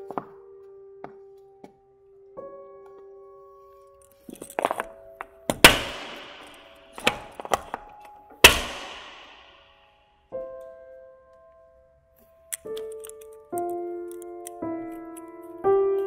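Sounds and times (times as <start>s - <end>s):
soft keyboard music: 0.0s - 8.5s, 9.5s - 16.0s.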